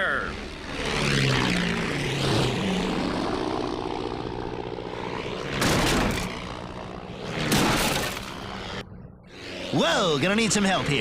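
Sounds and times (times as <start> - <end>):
cartoon propeller plane droning: 0.0 - 11.0
plane swooping past: 0.0 - 11.0.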